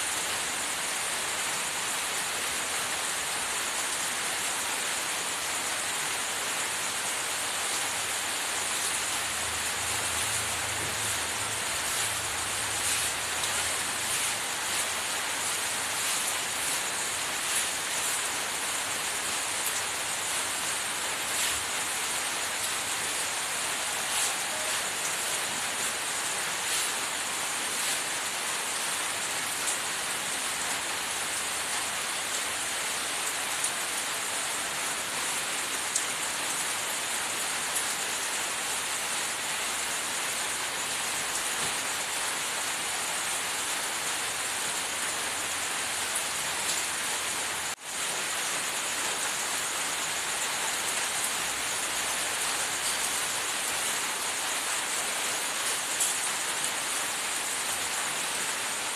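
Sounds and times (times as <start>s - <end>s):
steady hiss: 0.0s - 58.9s.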